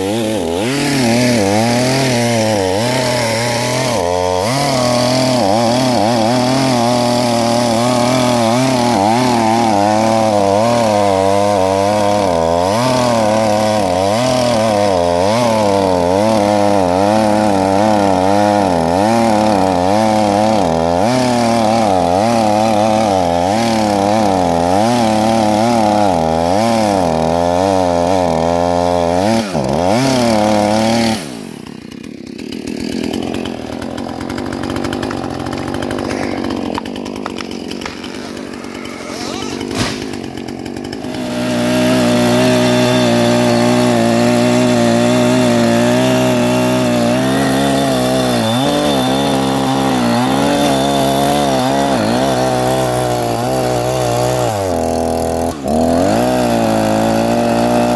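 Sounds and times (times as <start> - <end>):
chainsaw running at high revs: 0.0 - 57.9.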